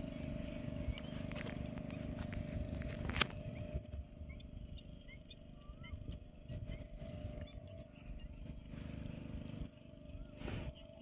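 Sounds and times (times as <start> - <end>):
faint steady hum: 0.0 - 11.0
small birds chirping: 0.0 - 11.0.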